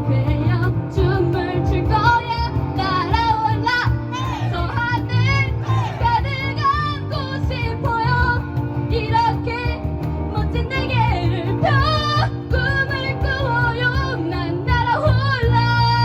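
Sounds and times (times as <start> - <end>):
rock band playing: 0.0 - 14.9
woman singing: 0.0 - 16.0.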